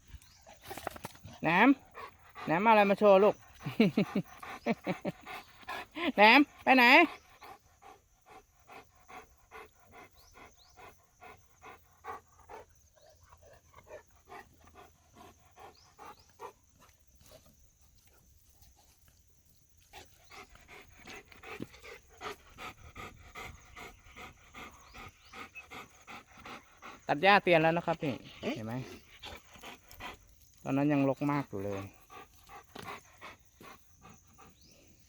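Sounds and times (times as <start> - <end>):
dog panting: 1.6 - 17.5, 19.9 - 30.6, 31.3 - 35.0.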